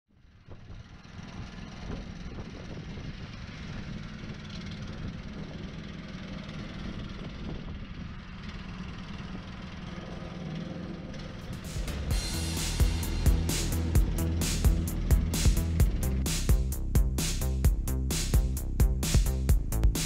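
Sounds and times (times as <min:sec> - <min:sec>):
loader engine running: 0:00.2 - 0:20.0.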